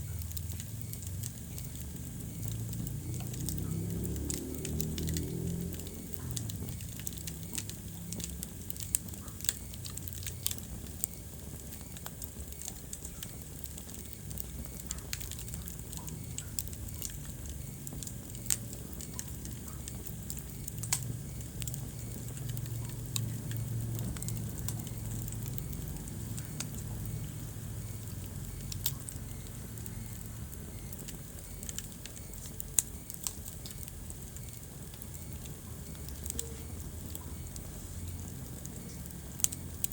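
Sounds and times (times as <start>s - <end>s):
low rumble of flames: 0.0s - 39.9s
sharp fire pops: 0.0s - 39.9s
wood fire crackling: 0.0s - 39.9s.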